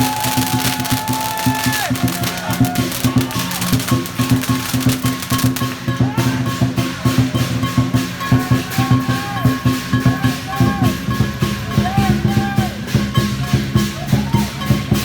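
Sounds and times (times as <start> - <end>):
cymbals clashing: 0.0 - 15.0
drum beating: 0.0 - 15.0.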